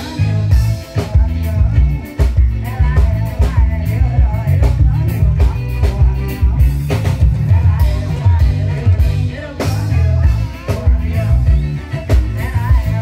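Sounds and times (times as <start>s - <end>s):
live band music: 0.0s - 13.0s
woman singing into a microphone: 0.0s - 13.0s.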